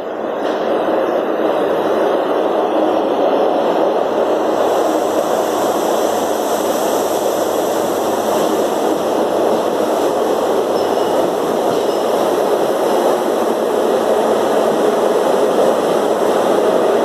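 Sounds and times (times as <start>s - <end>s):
train diesel engines under power: 0.0s - 17.0s
wheels running on rail: 0.0s - 17.0s.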